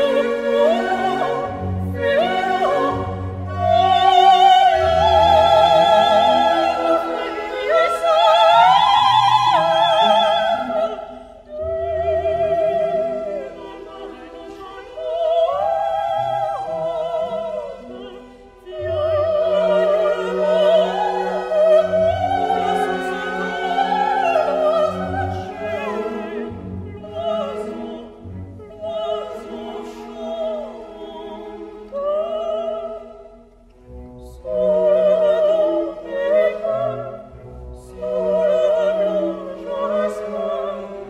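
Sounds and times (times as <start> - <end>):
orchestral accompaniment: 0.0 - 41.0.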